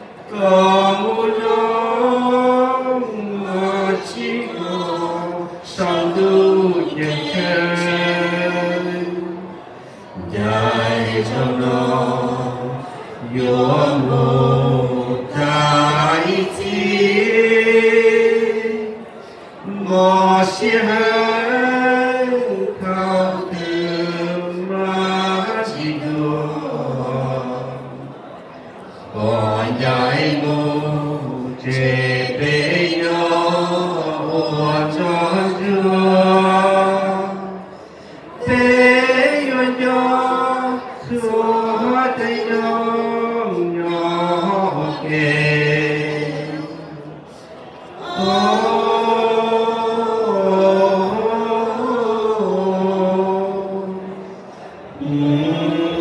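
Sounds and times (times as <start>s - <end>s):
group singing unaccompanied: 0.0s - 28.2s, 29.0s - 56.0s.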